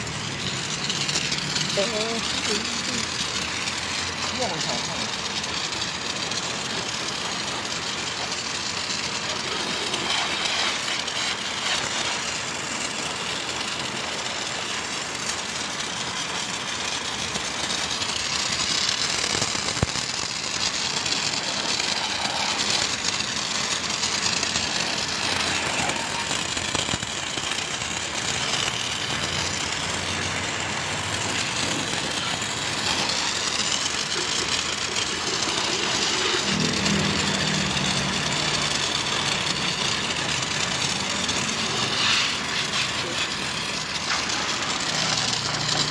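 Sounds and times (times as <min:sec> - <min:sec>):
pressure washer spraying: 0:00.0 - 0:45.9.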